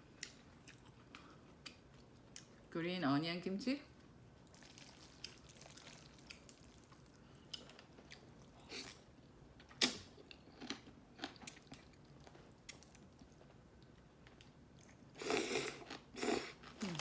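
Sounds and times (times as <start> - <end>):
person chewing: 0.2 - 2.6, 4.6 - 17.0.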